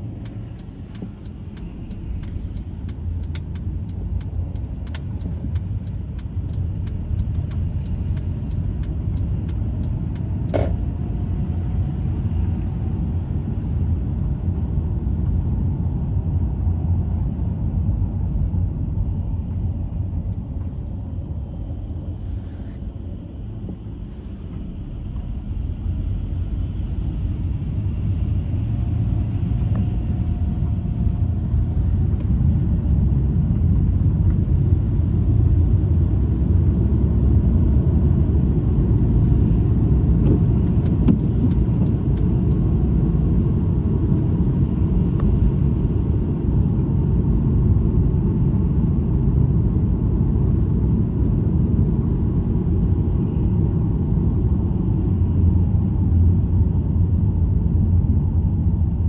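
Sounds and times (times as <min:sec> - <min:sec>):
road and tyre noise on wet road: 0:00.0 - 0:59.0.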